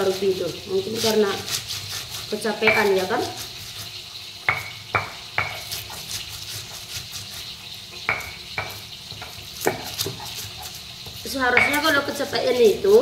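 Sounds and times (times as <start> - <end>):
stone pestle grinding in mortar: 0.0 - 13.0.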